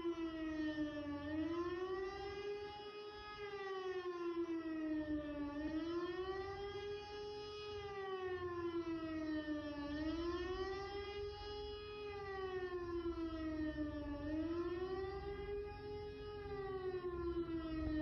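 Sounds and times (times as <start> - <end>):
air-raid siren wailing: 0.0 - 18.0.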